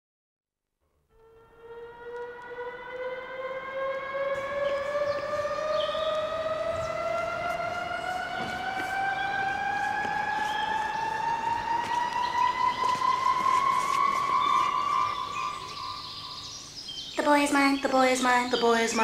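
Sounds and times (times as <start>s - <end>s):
siren winding up: 1.2s - 16.4s.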